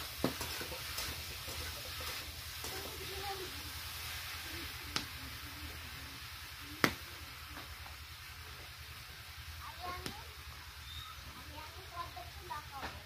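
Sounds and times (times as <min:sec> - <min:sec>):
steady background hiss: 0:00.0 - 0:13.0
faint distant voices: 0:00.3 - 0:13.0.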